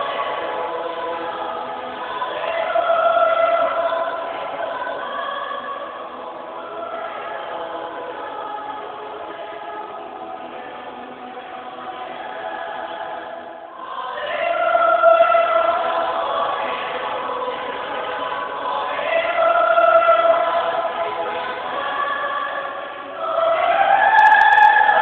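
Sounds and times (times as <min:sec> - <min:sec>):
choir singing sustained chords: 0:00.0 - 0:25.0.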